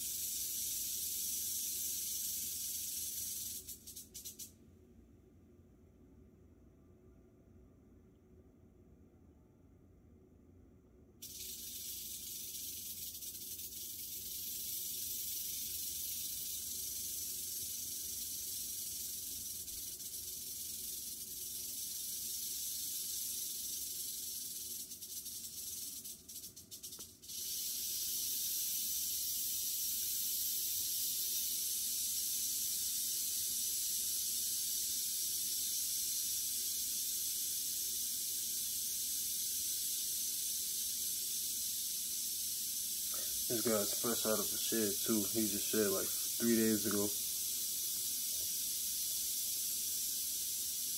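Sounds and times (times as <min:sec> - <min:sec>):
rattlesnake tail rattling: 0:00.0 - 0:04.6, 0:11.2 - 0:50.9.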